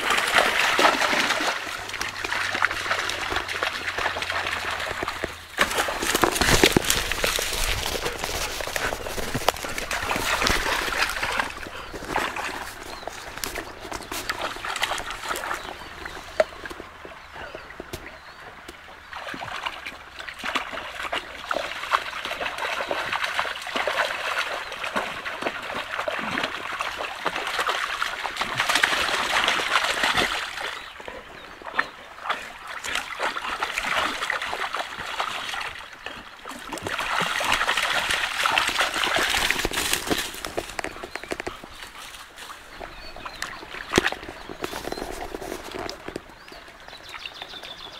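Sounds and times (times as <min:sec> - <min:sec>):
dog splashing in water: 0:00.0 - 0:16.6, 0:19.1 - 0:30.9, 0:31.6 - 0:46.2
stream trickling: 0:00.0 - 0:47.9.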